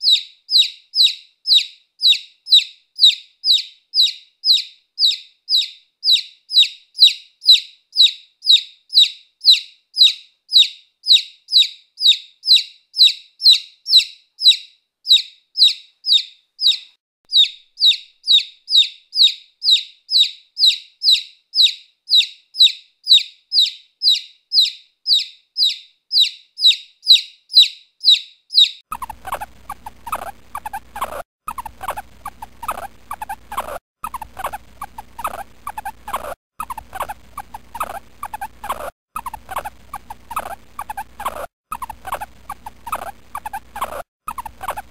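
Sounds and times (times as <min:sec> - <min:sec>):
small animal high-pitched chirp: 0:00.0 - 0:44.9.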